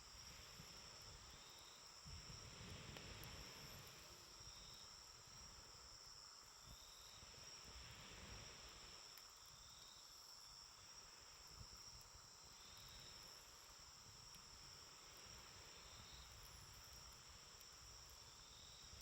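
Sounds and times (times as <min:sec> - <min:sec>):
campfire crackles: 0:00.0 - 0:19.0
insects trilling: 0:00.0 - 0:19.0.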